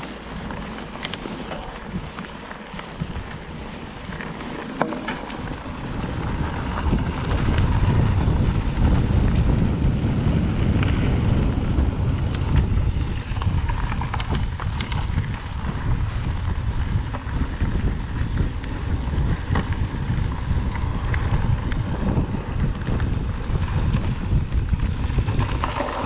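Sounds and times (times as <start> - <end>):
bike tyre rumble: 0.0 - 26.0
wind buffeting microphone: 0.0 - 26.0.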